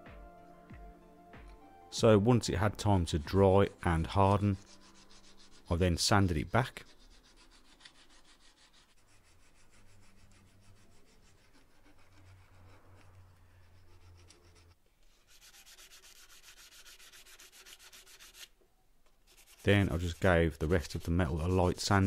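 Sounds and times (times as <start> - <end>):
sandpaper rubbing on metal: 3.0 - 18.5, 19.3 - 22.0.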